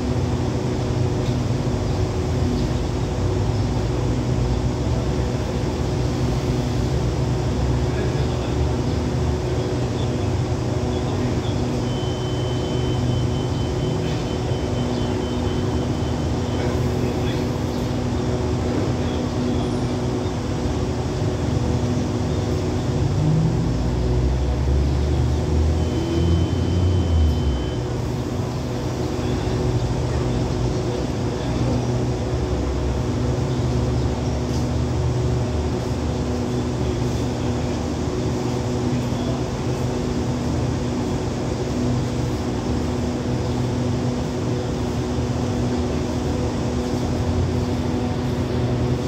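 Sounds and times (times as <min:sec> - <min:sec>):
diesel train idling: 0:00.0 - 0:49.0.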